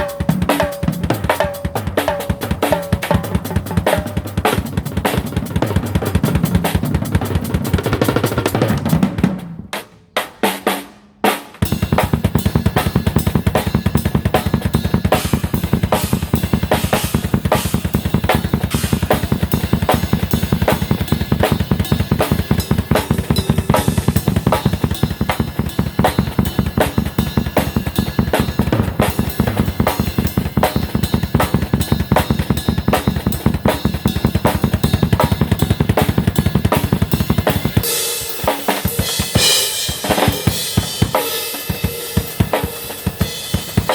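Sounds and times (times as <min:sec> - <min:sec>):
drum kit played fast: 0:00.0 - 0:43.9.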